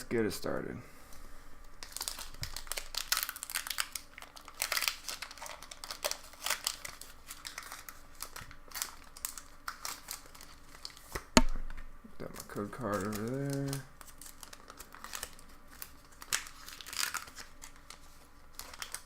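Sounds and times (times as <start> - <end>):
foil wrapper tearing and crinkling: 1.8 - 11.3, 12.2 - 19.0.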